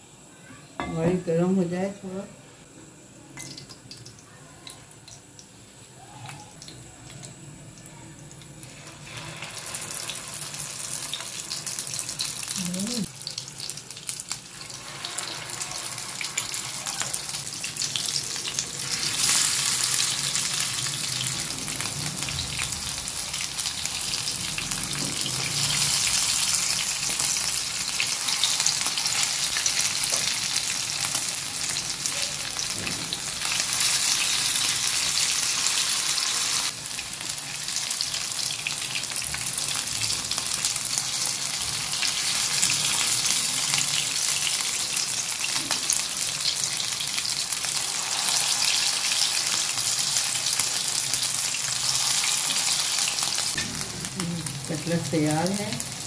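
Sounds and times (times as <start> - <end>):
frying sizzle in oil: 0.0 - 56.0.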